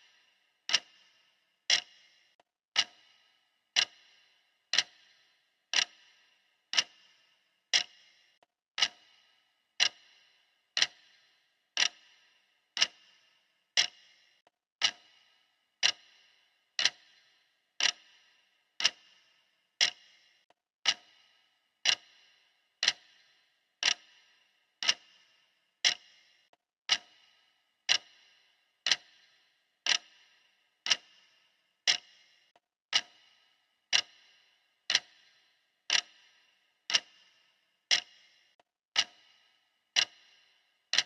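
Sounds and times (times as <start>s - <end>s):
clock ticking: 0.0s - 41.0s.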